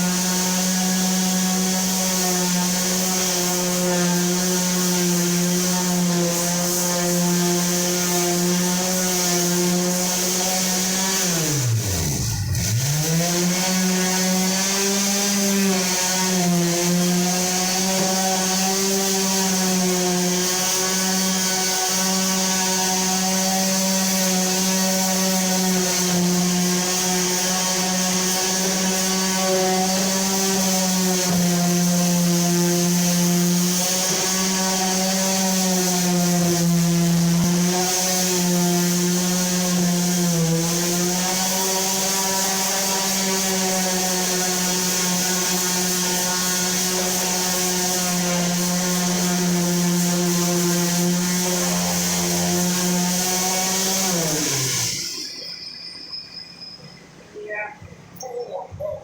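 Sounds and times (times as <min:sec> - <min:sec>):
electric sander running: 0:00.0 - 0:55.8.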